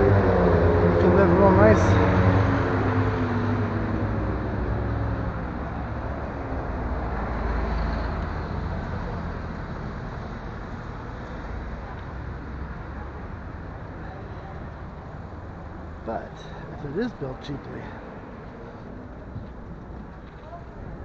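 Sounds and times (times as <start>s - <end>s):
passing vehicle engine: 0.0s - 21.0s
traffic rumble: 0.0s - 21.0s.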